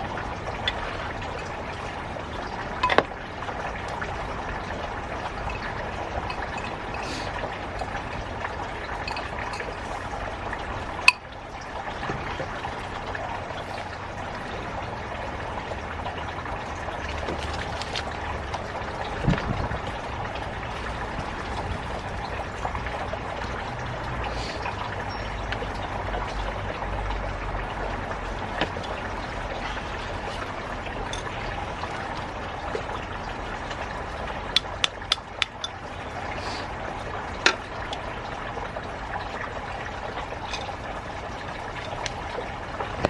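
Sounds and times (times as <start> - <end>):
water trickling and pouring: 0.0 - 43.0.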